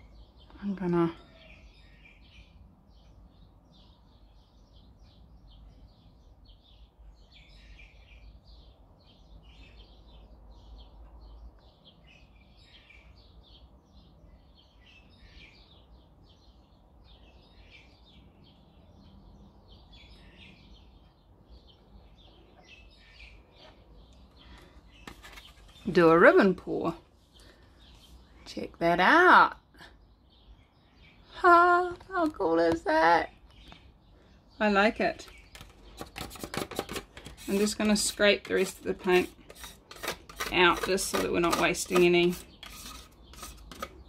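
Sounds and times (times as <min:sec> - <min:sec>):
faint birds chirping: 0:00.0 - 0:44.0.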